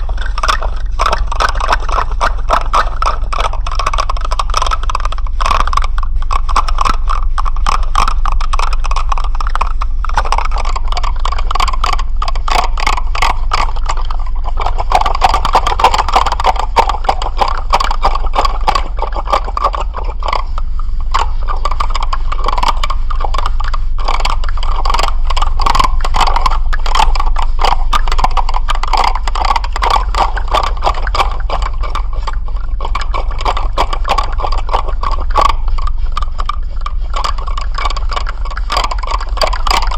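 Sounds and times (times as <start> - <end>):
dense rattling clicks: 0.0 - 39.9
steady low hum: 0.0 - 39.9.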